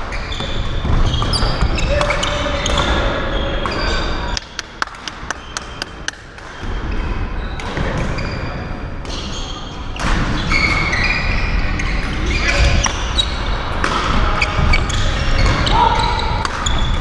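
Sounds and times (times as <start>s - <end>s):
shoes squeaking on court floor: 0.0s - 17.0s.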